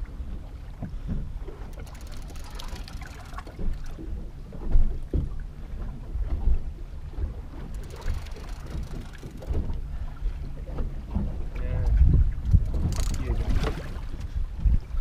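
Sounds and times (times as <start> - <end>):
water slapping against boat hull: 0.0 - 15.0
wind buffeting microphone: 0.0 - 15.0.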